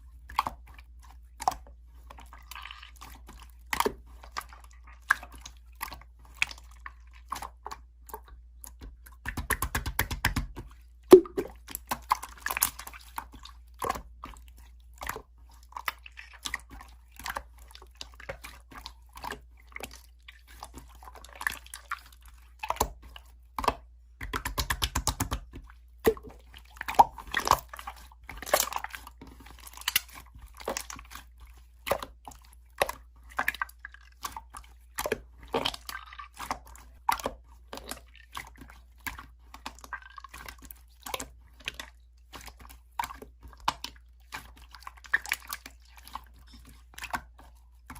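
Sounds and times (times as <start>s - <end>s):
slime squished by hand: 9.2s - 47.9s.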